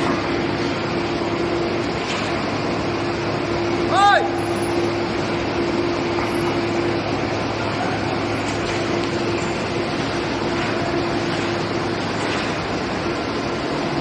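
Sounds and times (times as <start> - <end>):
constant low hum: 0.0 - 14.0
industrial machinery whirring: 0.0 - 14.0.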